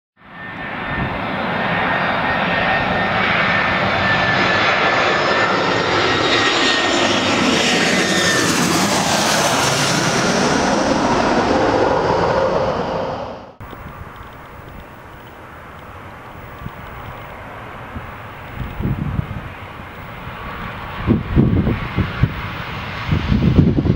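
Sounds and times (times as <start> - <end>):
jet airliner passing overhead: 0.2 - 23.9.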